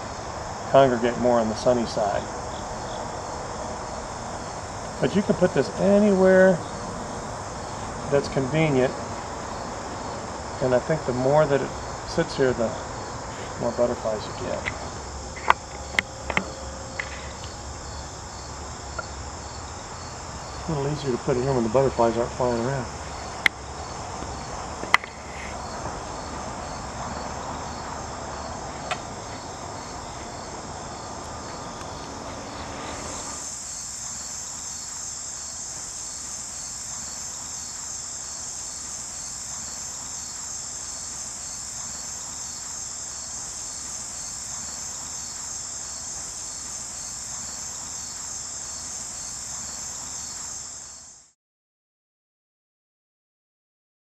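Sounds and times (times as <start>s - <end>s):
insects trilling: 0.0s - 51.3s.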